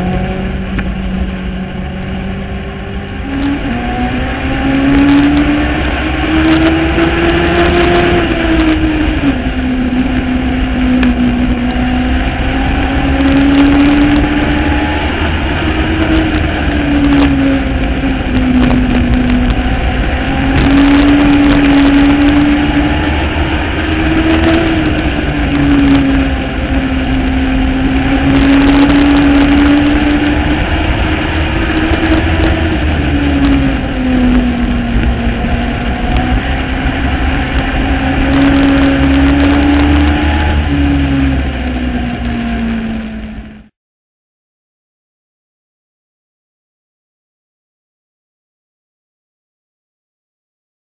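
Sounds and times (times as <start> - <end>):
race car engine revving: 0.0 - 43.7.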